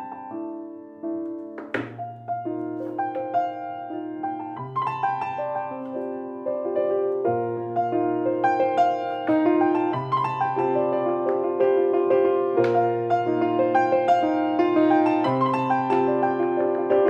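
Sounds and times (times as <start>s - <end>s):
grand piano piece: 0.0s - 17.0s.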